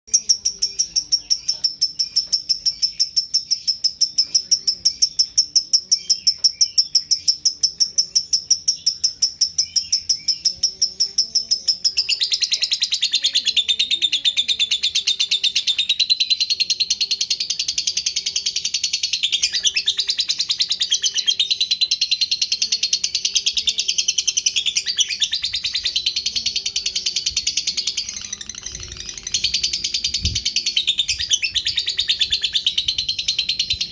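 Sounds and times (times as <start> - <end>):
lovebird chirping song: 0.1 - 33.9.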